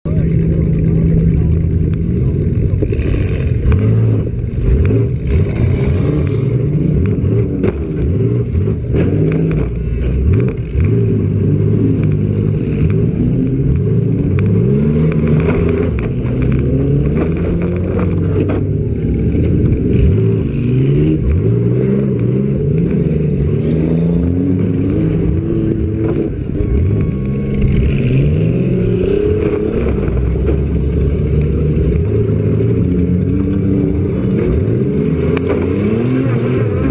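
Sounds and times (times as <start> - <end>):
car engines revving: 0.0 - 36.9.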